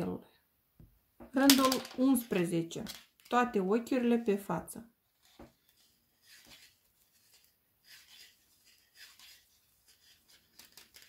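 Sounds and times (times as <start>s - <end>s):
knitting needles rustling yarn: 1.4s - 11.0s.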